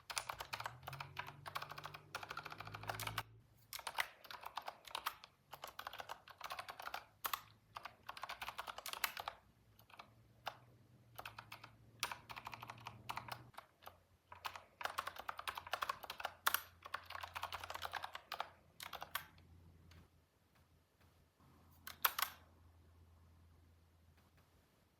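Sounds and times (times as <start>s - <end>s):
typing on computer keyboard: 0.0s - 19.5s, 21.8s - 22.5s.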